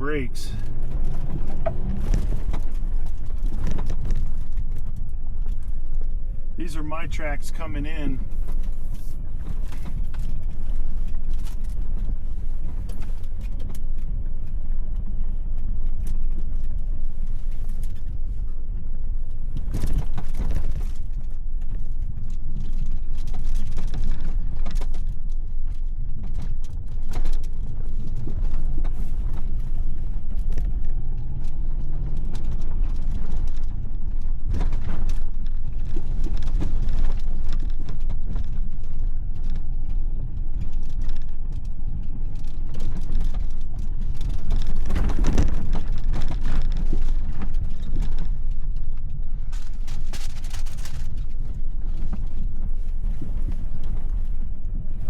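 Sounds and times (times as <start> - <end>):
engine and road rumble: 0.0 - 55.0
vehicle body rattling and creaking: 0.0 - 55.0.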